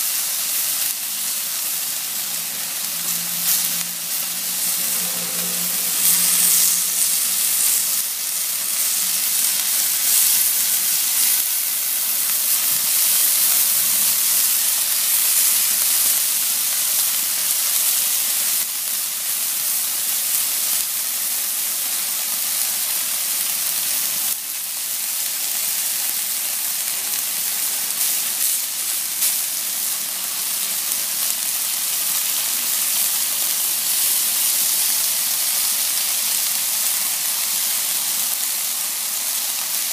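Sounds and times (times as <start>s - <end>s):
chicken sizzling on a grill pan: 0.0s - 39.9s.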